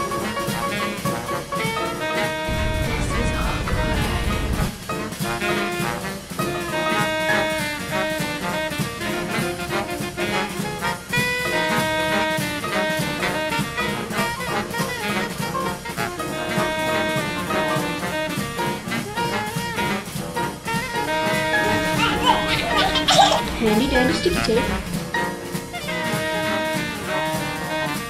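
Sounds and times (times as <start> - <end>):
jazz horns playing held notes: 0.0 - 28.0
drum kit beat: 2.5 - 28.0.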